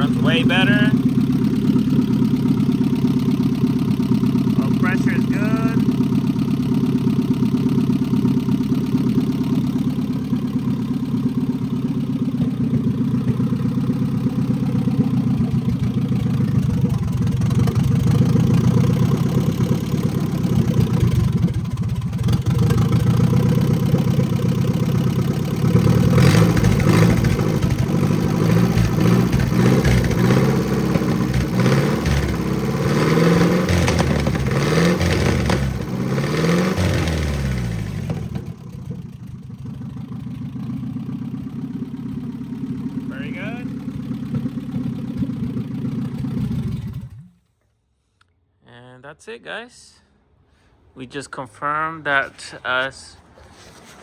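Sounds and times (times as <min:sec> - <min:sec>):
engine revving: 0:00.0 - 0:39.0, 0:42.3 - 0:47.4
car engine idling: 0:00.0 - 0:47.5.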